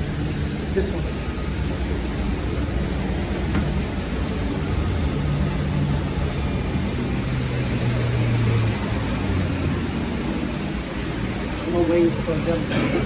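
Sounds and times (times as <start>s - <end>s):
train car rumble and hum: 0.0s - 13.0s.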